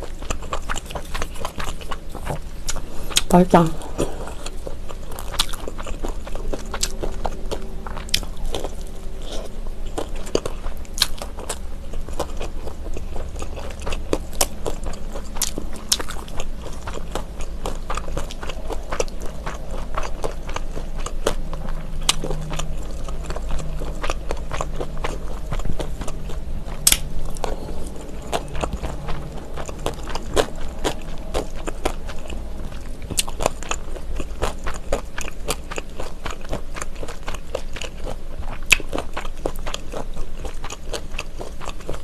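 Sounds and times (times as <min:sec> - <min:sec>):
chewing and biting rice rolls: 0:00.0 - 0:42.0.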